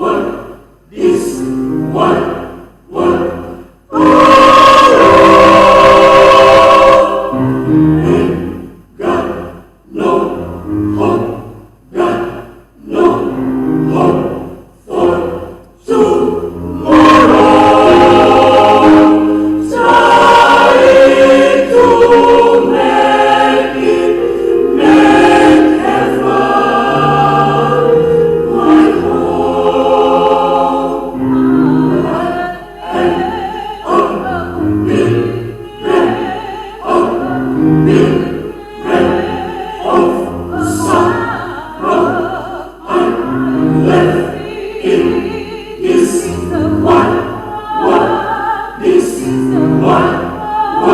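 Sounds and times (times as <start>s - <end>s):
church choir singing: 0.0s - 50.9s.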